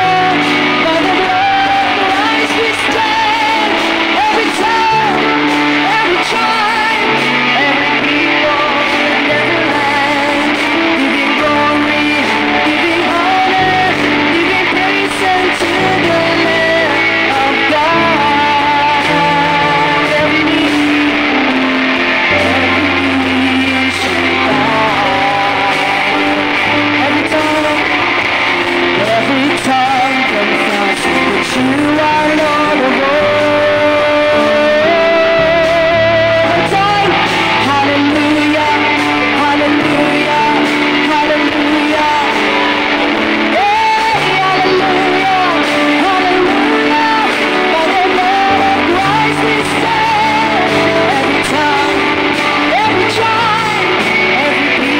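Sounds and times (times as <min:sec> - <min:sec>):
bass guitar: 0:00.0 - 0:54.9
drum kit: 0:00.0 - 0:54.9
electric guitar: 0:00.0 - 0:54.9
keyboard: 0:00.0 - 0:54.9
person singing: 0:00.0 - 0:54.9.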